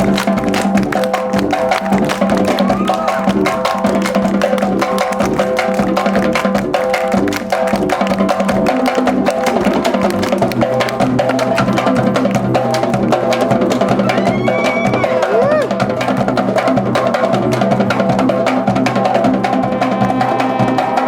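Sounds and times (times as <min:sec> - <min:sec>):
brass marching band playing: 0:00.0 - 0:21.0.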